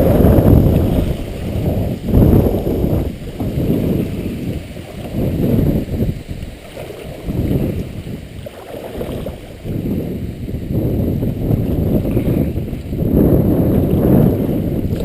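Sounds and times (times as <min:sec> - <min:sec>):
low rumbling wind: 0:00.0 - 0:15.0
water noise: 0:00.0 - 0:15.0.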